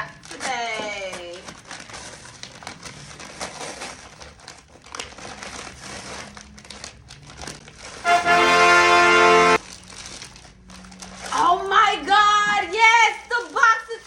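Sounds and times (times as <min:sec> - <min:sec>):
parcels torn open: 0:00.0 - 0:11.7
packaging crinkling and rustling: 0:00.0 - 0:14.0.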